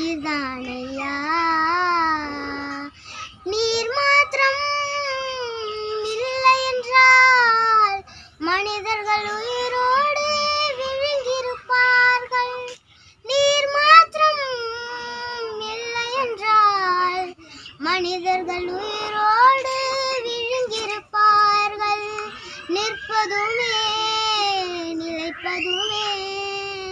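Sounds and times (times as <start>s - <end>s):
girl singing unaccompanied: 0.0s - 26.9s.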